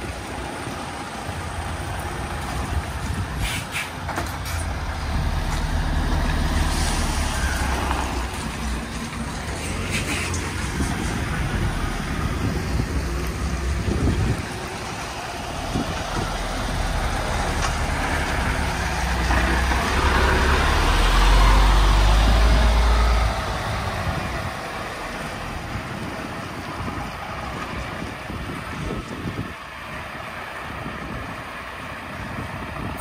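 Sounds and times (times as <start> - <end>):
road and wind hiss: 0.0 - 33.0
truck diesel engine running: 0.0 - 33.0.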